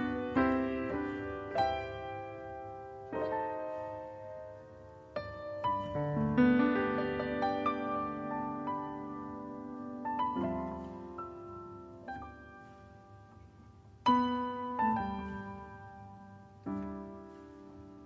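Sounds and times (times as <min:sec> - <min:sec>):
slow solo piano chords: 0:00.0 - 0:18.0.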